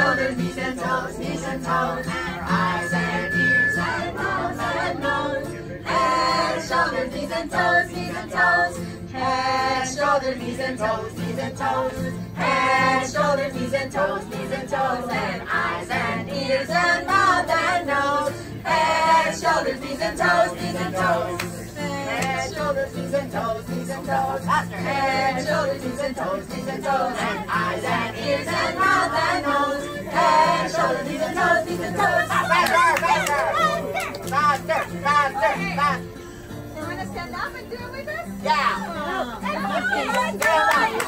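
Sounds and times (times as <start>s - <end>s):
children singing: 0.0s - 34.0s
music accompaniment: 0.0s - 41.0s.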